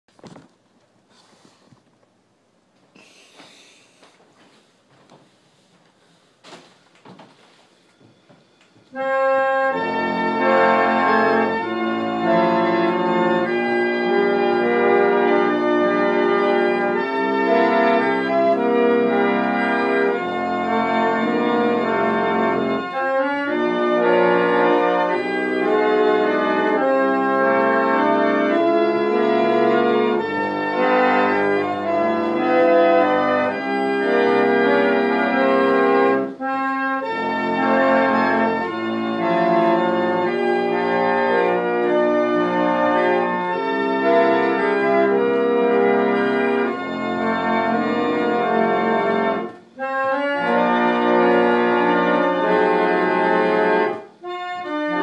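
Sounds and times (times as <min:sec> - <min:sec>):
pump organ playing chords: 0:07.8 - 0:55.0.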